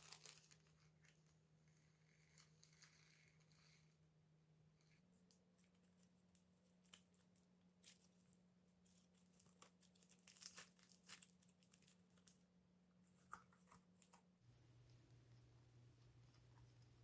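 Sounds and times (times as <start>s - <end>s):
slime crackling being mixed: 0.0s - 4.1s, 4.8s - 14.4s.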